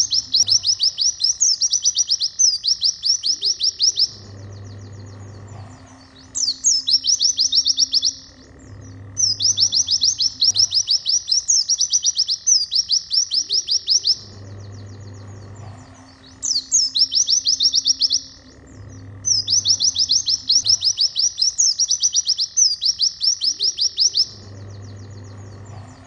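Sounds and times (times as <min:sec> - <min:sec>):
bird singing high falling notes: 0:00.0 - 0:26.0.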